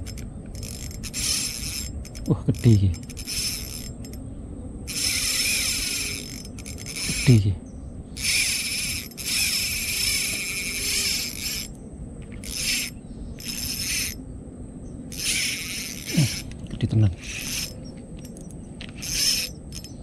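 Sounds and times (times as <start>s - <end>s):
fishing reel whirring: 0.0s - 4.2s, 4.9s - 7.5s, 8.2s - 14.2s, 15.1s - 16.6s, 17.2s - 20.0s.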